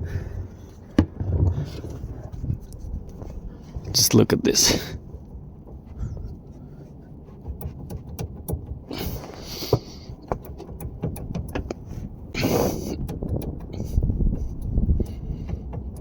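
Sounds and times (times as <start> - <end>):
steering joint clicking and knocking: 0.0 - 16.0.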